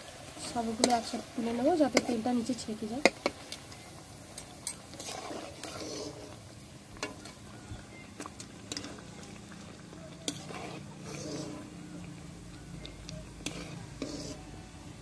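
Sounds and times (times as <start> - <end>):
hot oil bubbling: 0.0 - 15.0.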